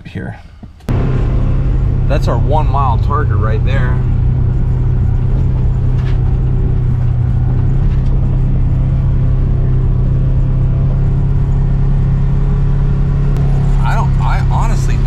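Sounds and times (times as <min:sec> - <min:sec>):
utility vehicle engine droning: 0:00.8 - 0:15.0.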